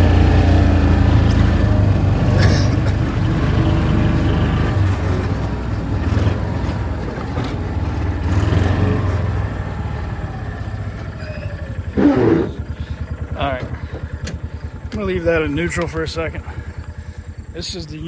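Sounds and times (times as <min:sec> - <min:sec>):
utility vehicle engine driving: 0:00.0 - 0:18.0.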